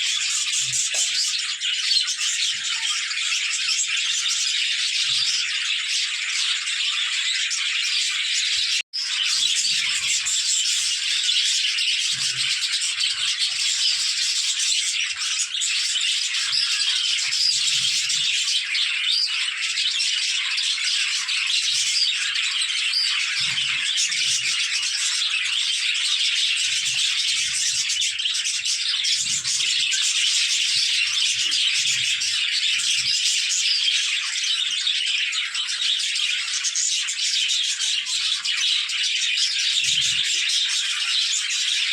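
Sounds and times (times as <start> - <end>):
budgerigars chattering: 0.0 - 41.9.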